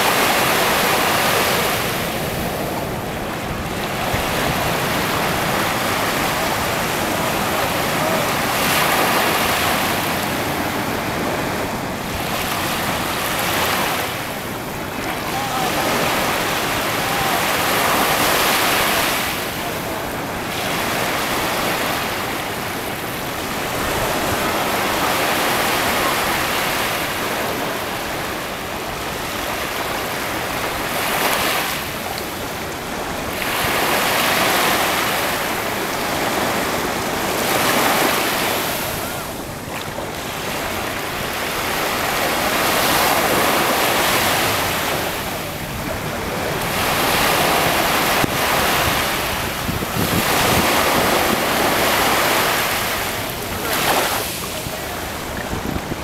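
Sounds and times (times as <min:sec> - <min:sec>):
surf breaking on a beach: 0:00.0 - 0:56.0.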